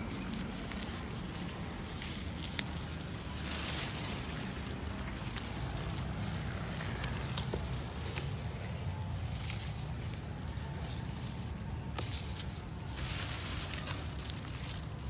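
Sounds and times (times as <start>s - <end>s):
rustling plants: 0.0s - 15.0s.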